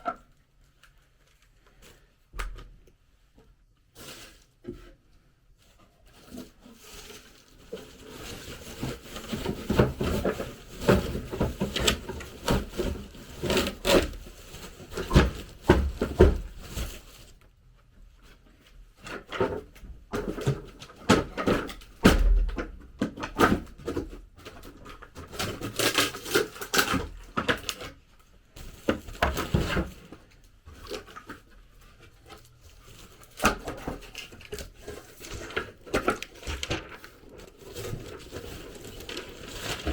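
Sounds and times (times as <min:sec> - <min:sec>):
objects being handled: 0:03.4 - 0:17.4, 0:18.2 - 0:39.9.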